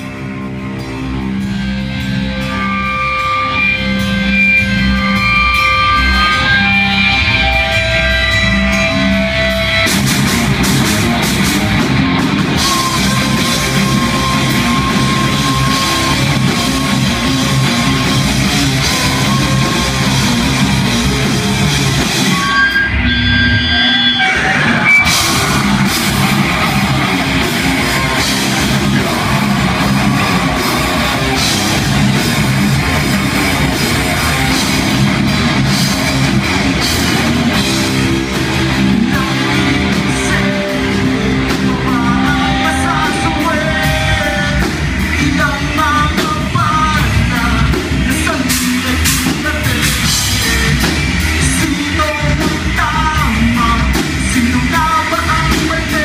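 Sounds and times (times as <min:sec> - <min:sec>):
bass guitar: 0:00.0 - 0:56.0
drum kit: 0:00.0 - 0:56.0
electric guitars: 0:00.0 - 0:56.0.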